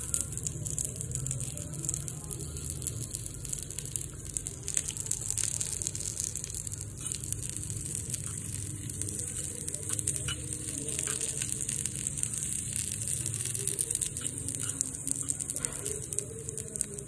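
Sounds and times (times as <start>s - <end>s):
onion and garlic sizzling: 0.0s - 17.0s.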